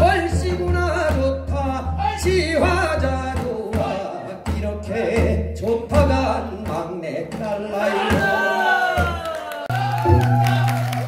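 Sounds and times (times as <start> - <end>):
man singing with vibrato: 0.0 - 10.0.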